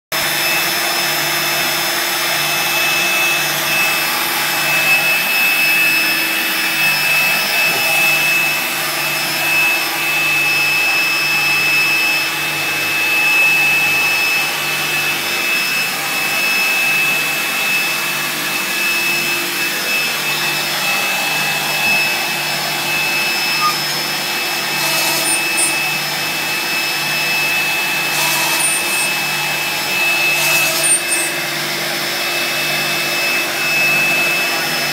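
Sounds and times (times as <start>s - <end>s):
dust extraction vacuum: 0.1s - 34.9s
router spindle whining: 0.1s - 34.9s.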